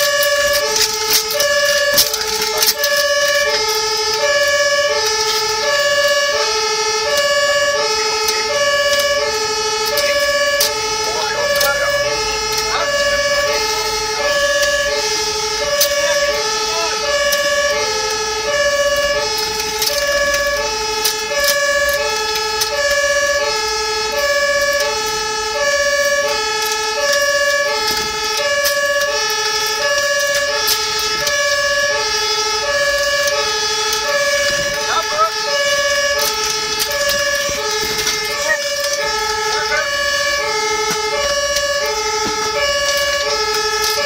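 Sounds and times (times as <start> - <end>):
road noise: 0.0 - 44.0
truck engine: 0.0 - 44.0
two-tone fire engine siren: 0.0 - 44.0.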